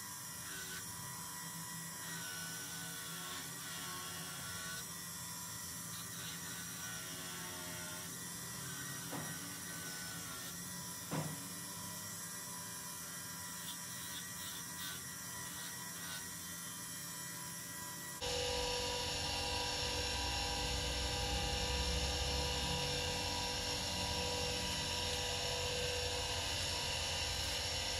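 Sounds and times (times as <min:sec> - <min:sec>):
bench grinder running: 0:00.0 - 0:27.9.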